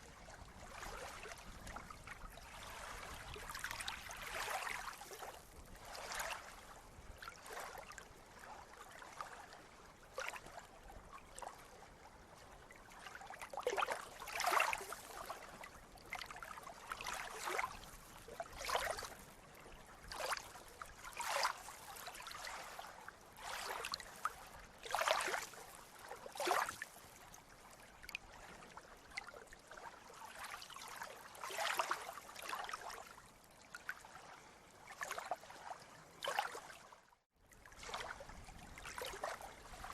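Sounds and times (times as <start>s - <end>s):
sea water lapping and splashing: 0.0s - 39.9s.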